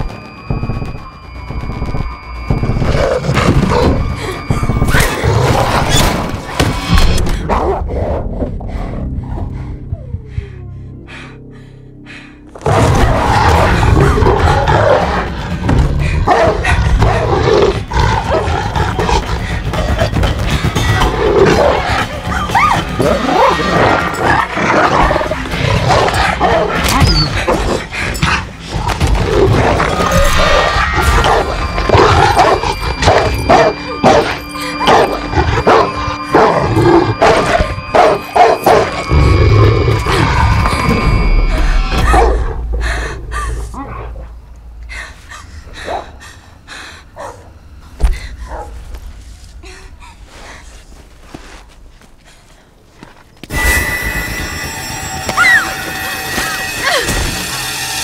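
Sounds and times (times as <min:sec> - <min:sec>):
tense film score music: 0:00.0 - 0:58.0.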